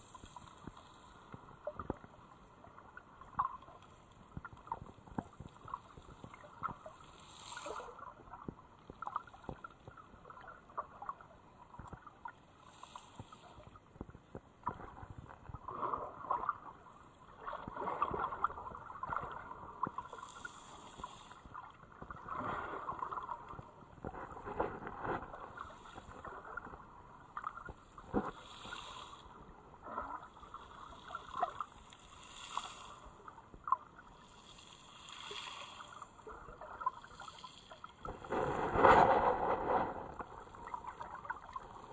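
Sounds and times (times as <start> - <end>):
muffled water sloshing and gurgling: 0.0 - 41.9.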